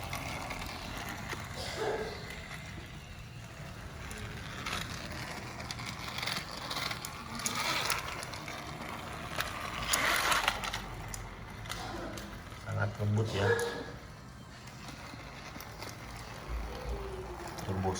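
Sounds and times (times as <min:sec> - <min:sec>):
toy train motor whirring: 0:00.0 - 0:17.9.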